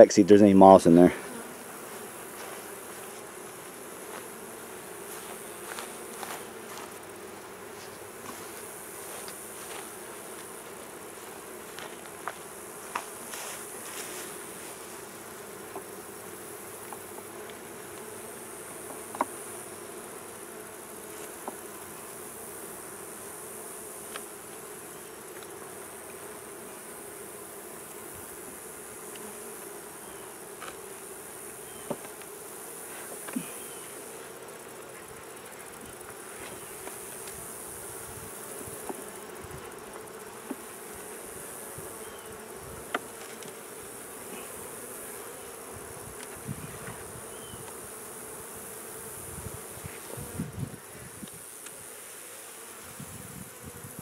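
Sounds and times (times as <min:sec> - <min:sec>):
bees humming: 0:00.0 - 0:54.0.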